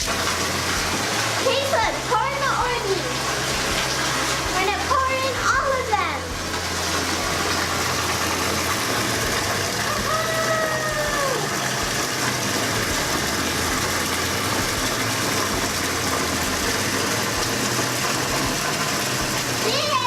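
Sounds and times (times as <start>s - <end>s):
water gushing into bathtub: 0.0s - 20.0s.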